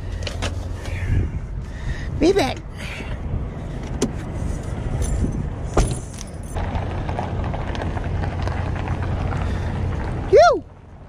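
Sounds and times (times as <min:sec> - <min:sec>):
rumble of vehicles: 0:00.0 - 0:11.0.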